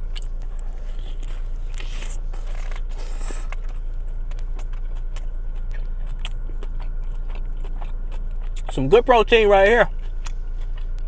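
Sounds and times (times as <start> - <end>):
crunching while eating sandwich: 0.0 - 11.0
steady low hum: 0.0 - 11.0.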